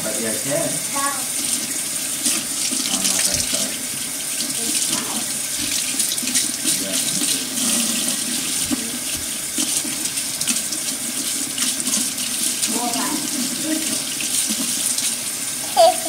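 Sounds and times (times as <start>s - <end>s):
faucet running into sink: 0.0s - 16.0s
water stream splashing: 0.8s - 16.0s.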